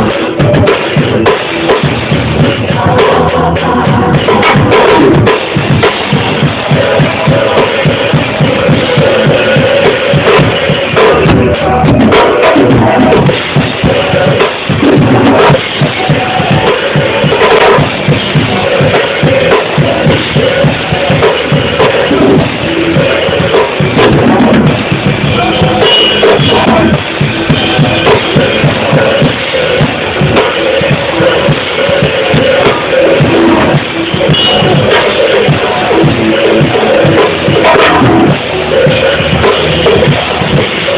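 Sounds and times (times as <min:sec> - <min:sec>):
live band music: 0:00.0 - 0:40.9.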